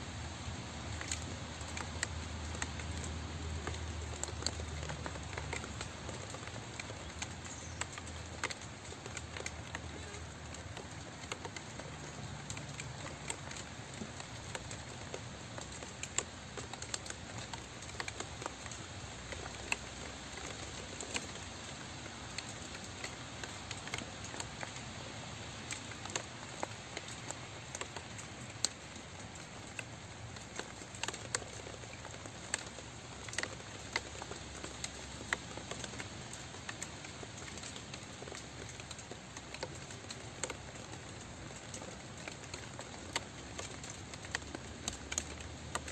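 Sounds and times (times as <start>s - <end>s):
rain hissing: 0.0s - 45.9s
raindrops ticking: 0.0s - 45.9s.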